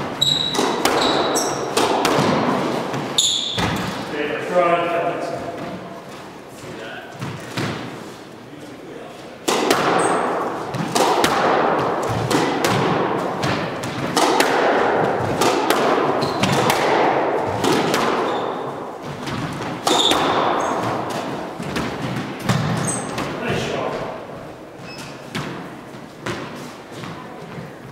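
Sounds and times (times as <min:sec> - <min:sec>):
squash ball hitting racquets and walls: 0:00.0 - 0:08.3, 0:09.2 - 0:27.9.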